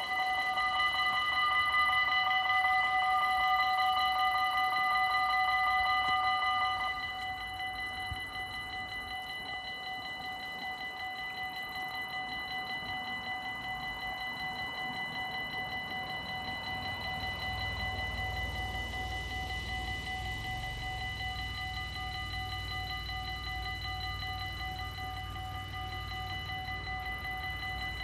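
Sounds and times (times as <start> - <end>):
level-crossing bells ringing: 0.0 - 28.0.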